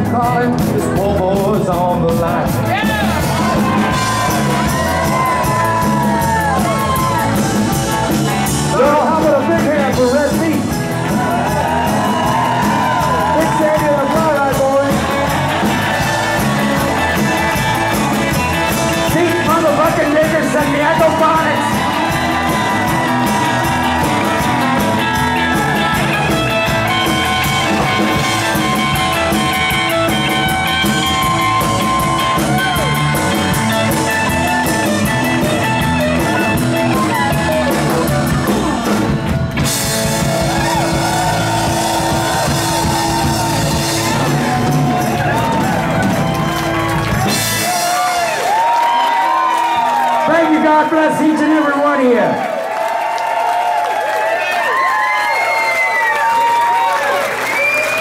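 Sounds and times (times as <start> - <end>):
drum kit: 0.0 - 51.2
electric guitars: 0.0 - 58.0.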